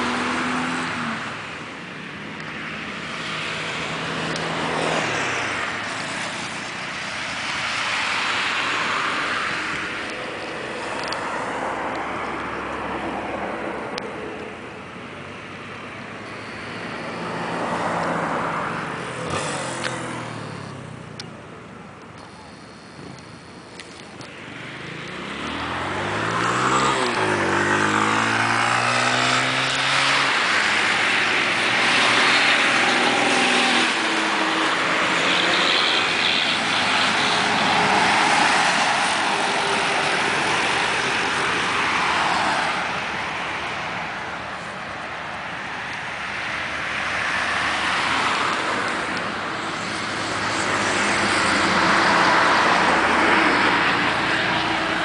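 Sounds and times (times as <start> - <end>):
vehicles passing by: 0.0 - 55.0.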